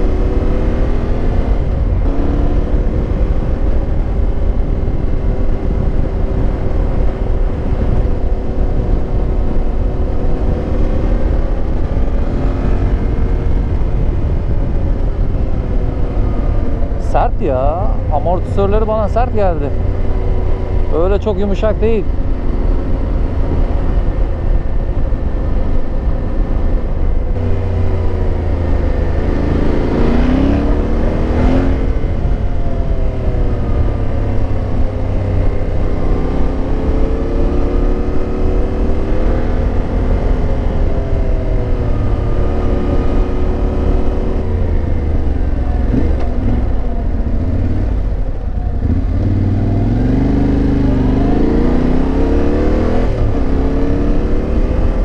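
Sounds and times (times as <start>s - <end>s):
low rumble: 0.0s - 55.0s
motorcycle engine revving: 0.0s - 55.0s.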